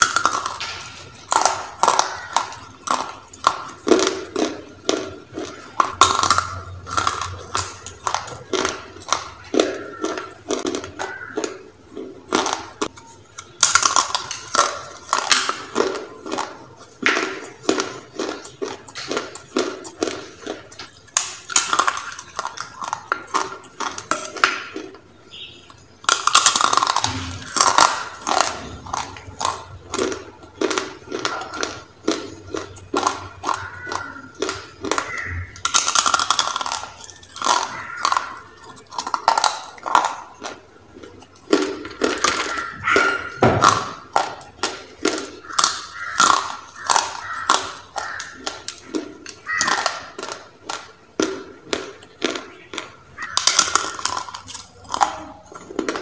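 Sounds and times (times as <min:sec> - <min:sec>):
crunchy biting and chewing: 0:00.0 - 0:56.0.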